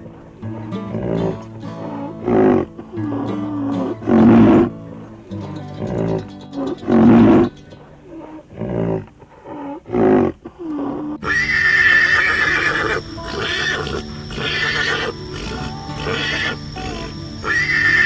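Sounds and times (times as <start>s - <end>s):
large animal calls: 0.0s - 18.0s.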